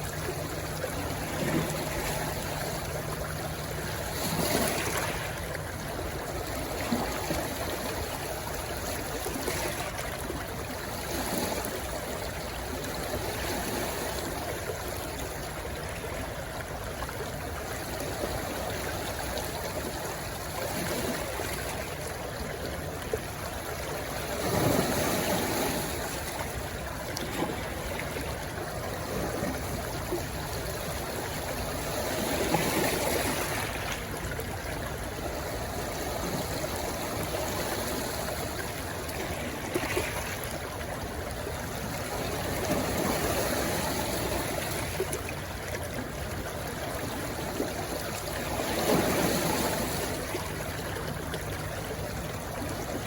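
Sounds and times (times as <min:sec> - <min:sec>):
stream water rushing over stones: 0:00.0 - 0:53.0.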